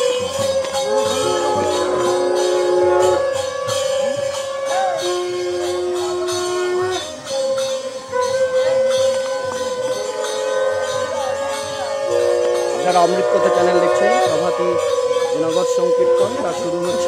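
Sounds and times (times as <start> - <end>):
jingling metal percussion: 0.0 - 17.0
long held melodic notes: 0.0 - 17.0.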